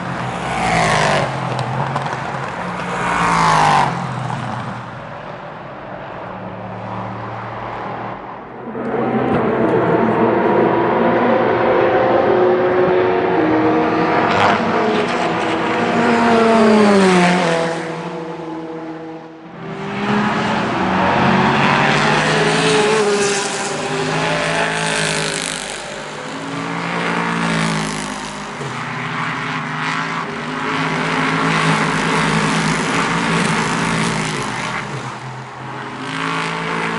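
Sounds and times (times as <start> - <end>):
racing cars passing: 0.0 - 36.9.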